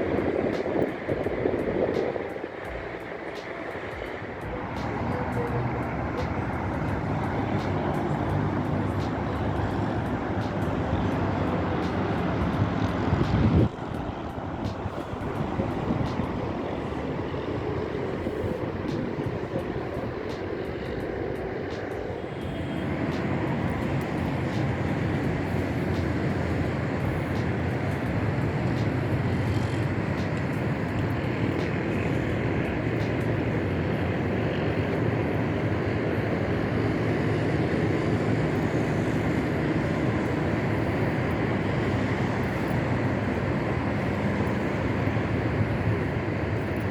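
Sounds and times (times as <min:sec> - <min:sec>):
road traffic roar: 0:00.0 - 0:46.9.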